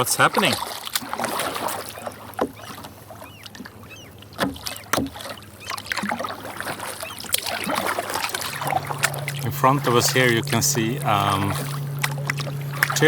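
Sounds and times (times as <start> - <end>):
paddle dipping through water: 0.0 - 13.0
water splashing and dripping: 0.0 - 13.0.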